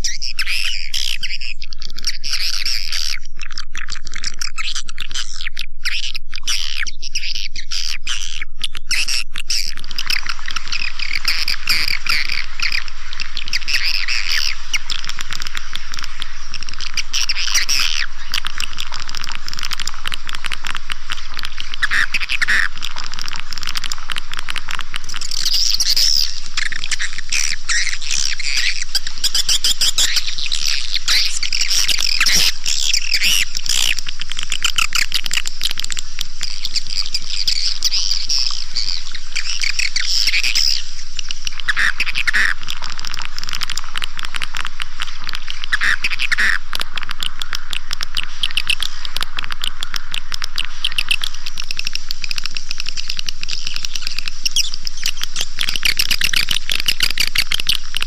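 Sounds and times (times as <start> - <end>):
bird chirping and twittering chorus: 8.9 - 58.0
rapid clicking: 9.8 - 58.0.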